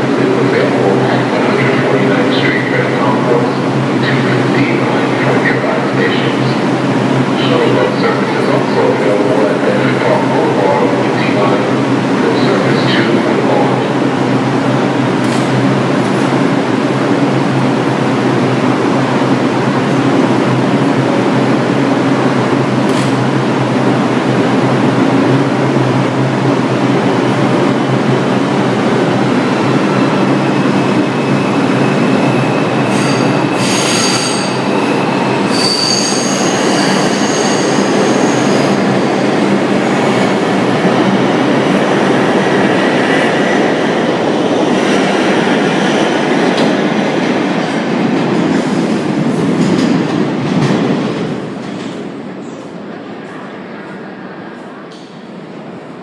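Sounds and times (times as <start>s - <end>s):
rising train whine: 0.0s - 56.0s
subway train rumbling: 0.0s - 56.0s.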